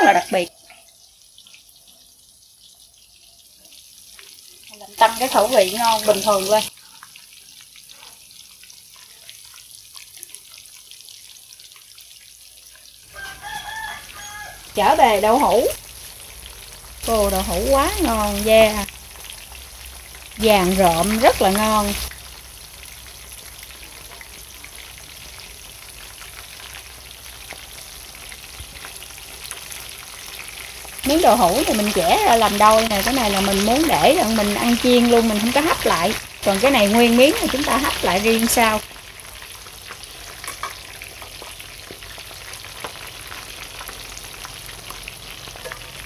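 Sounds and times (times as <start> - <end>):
tofu sizzling in hot oil: 0.0 - 46.0.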